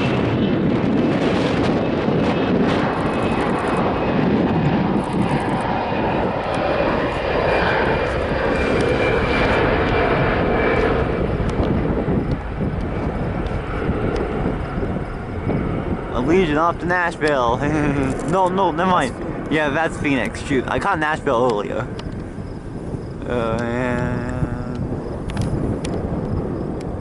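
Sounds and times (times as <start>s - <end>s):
jet engines roaring: 0.0s - 27.0s
faint high whine: 5.0s - 27.0s.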